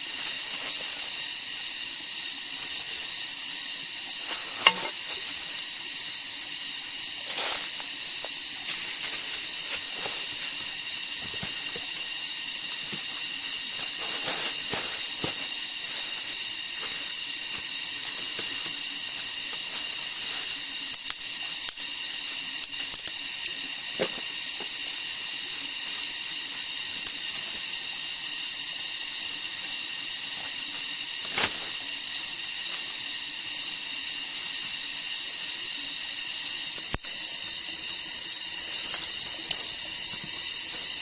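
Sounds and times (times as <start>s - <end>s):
high-pitched insect drone: 0.0s - 41.0s.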